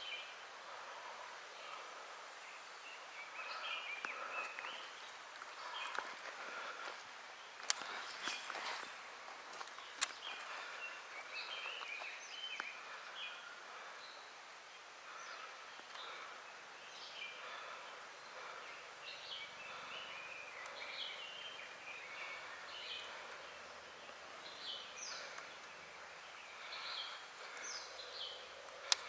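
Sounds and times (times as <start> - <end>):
birds chirping and calling: 0.0 - 29.0
steady background hiss: 0.0 - 29.0.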